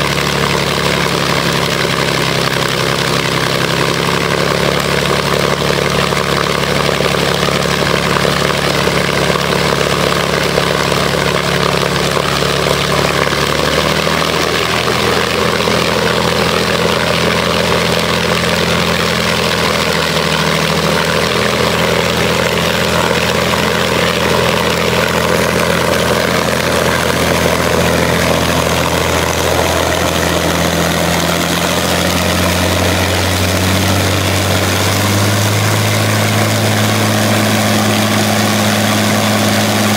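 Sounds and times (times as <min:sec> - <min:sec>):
aero engine running: 0:00.0 - 0:39.9.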